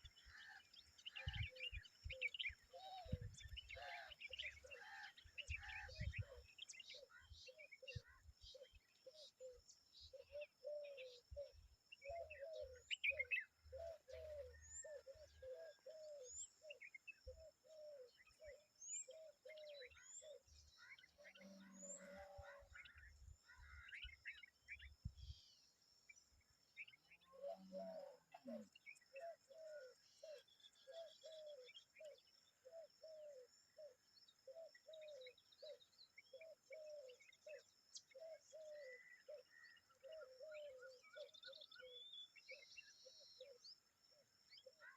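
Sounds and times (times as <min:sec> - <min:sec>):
faint bird chirping: 0:00.0 - 0:44.9.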